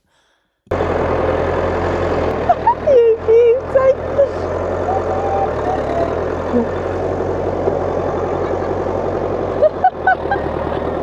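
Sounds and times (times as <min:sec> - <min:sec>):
tractor diesel engine running: 0:00.7 - 0:11.0.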